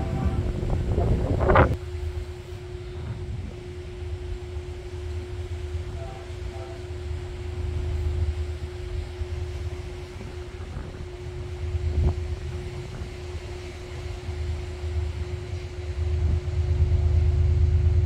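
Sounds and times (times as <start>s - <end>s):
steady low hum: 0.0s - 18.0s
wind buffeting microphone: 0.0s - 18.0s.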